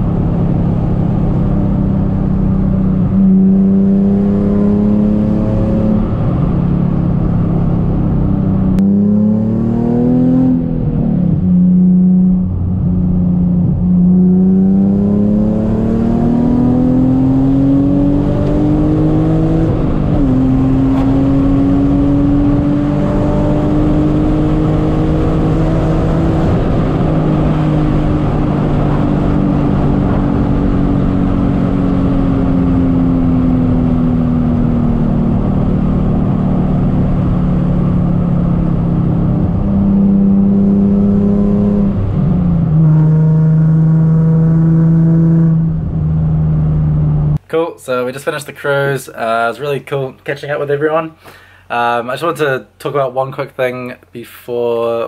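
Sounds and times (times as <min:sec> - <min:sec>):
car engine revving through gears: 0:00.0 - 0:47.4.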